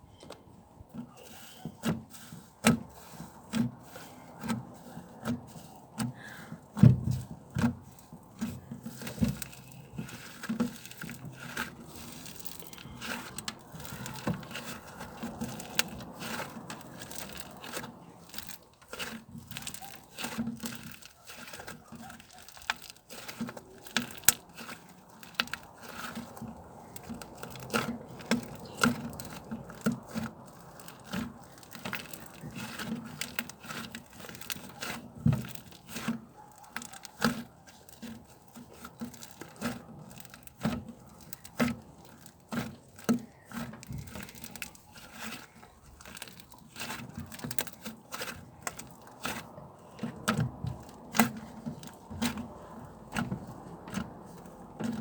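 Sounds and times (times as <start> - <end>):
crinkling and crackling: 0.0 - 55.0.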